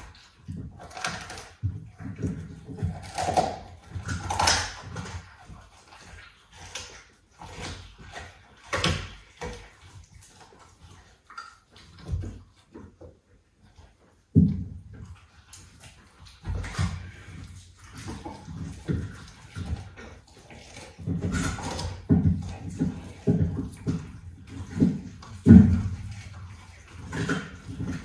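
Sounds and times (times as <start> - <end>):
big cat chewing meat: 0.0 - 28.0.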